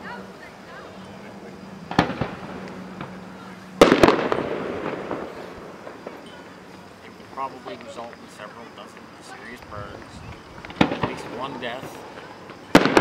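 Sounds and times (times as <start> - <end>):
fireworks bangs: 1.2 - 13.0.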